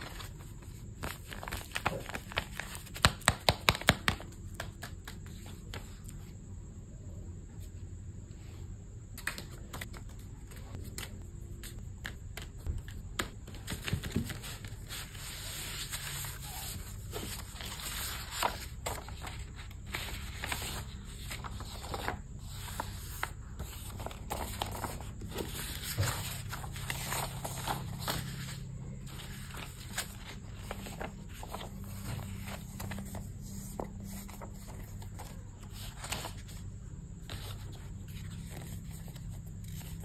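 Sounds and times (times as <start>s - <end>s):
low steady hum: 4.1s - 40.0s.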